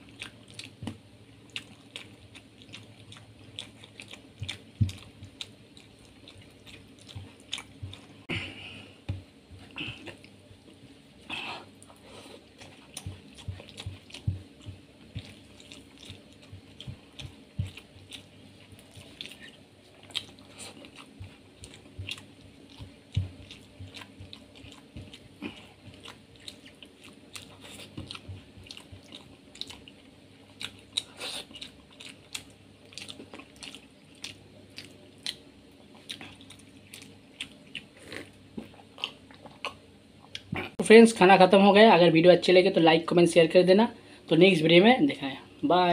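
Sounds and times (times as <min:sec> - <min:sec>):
person chewing with mouth smacks: 0:00.0 - 0:10.8, 0:11.6 - 0:40.8.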